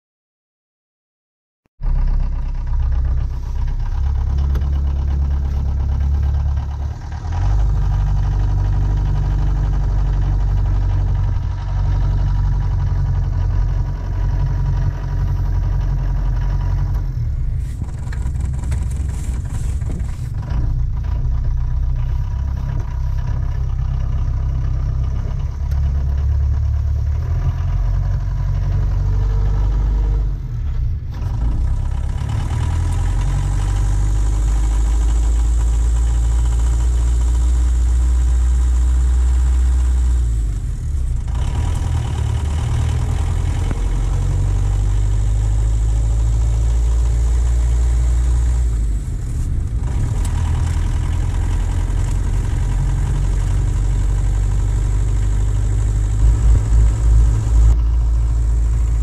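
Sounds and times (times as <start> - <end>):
diesel engine running inside cab: 1.8 - 59.0.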